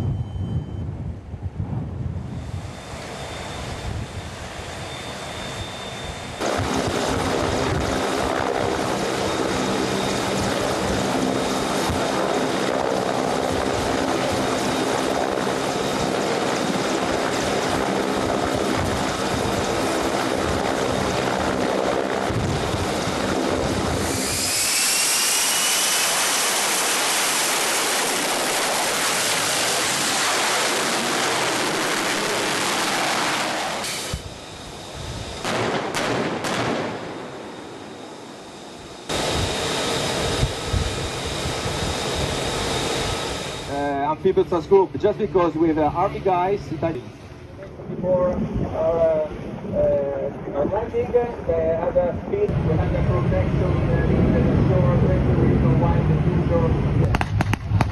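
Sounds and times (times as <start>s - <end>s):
jet engine rush with whine: 0.0s - 57.9s
engine drone: 2.3s - 57.9s.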